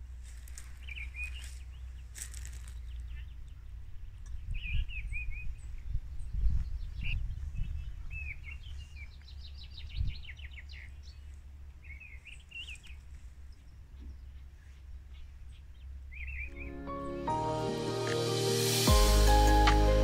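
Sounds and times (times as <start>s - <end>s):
small songbirds chirping: 0.0s - 17.3s.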